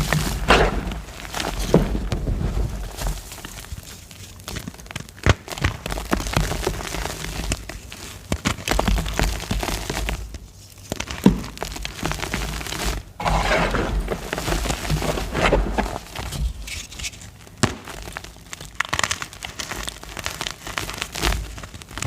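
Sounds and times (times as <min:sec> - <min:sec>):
chalk crunching and crumbling: 0:00.0 - 0:22.0.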